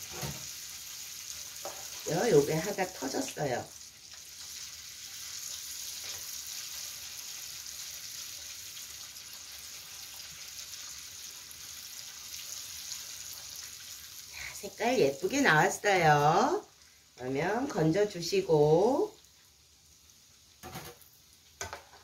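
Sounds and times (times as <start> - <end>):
croquettes sizzling in hot oil: 0.0 - 22.0.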